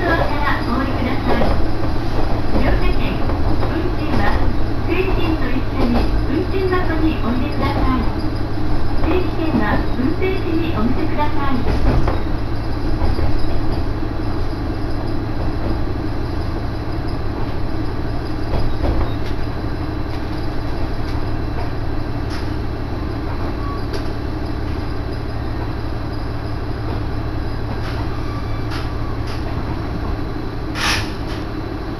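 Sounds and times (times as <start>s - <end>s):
rail rumble: 0.0s - 31.9s
railcar engine hum: 0.0s - 31.9s.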